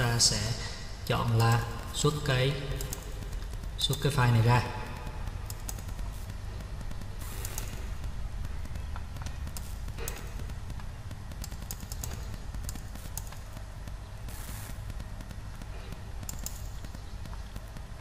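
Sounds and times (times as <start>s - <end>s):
low electrical hum: 0.0s - 18.0s
computer mouse clicks: 2.8s - 4.4s, 5.0s - 18.0s.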